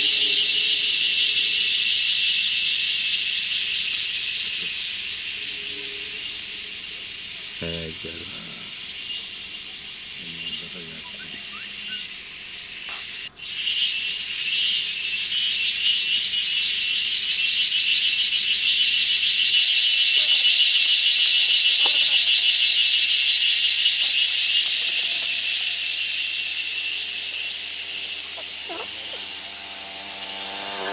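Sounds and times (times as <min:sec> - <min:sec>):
insects buzzing: 0:00.0 - 0:30.9.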